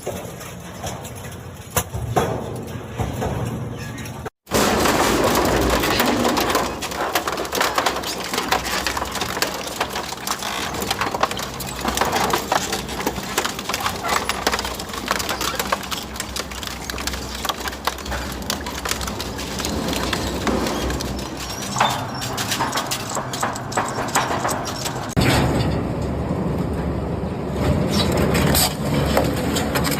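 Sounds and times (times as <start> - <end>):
shredder crunching scrap metal: 4.4 - 26.2, 27.5 - 29.9.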